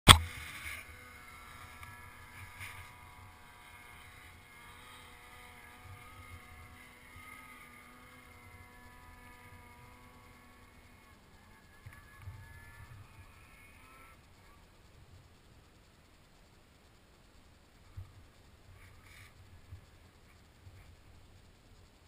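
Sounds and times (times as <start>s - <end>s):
snowmobile engine idling: 0.1s - 22.0s.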